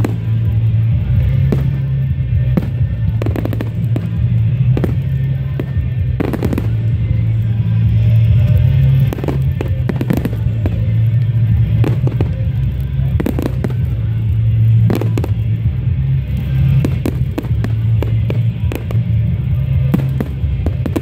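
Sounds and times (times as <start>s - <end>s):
fireworks bangs and crackles: 0.0s - 21.0s
music with heavy bass: 0.0s - 21.0s.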